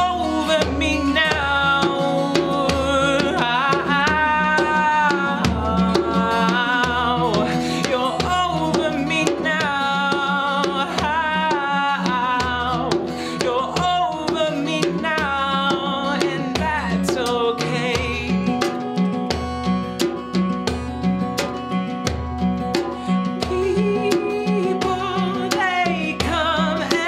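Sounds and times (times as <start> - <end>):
band playing live: 0.0 - 27.0
drums steady beat: 0.0 - 27.0.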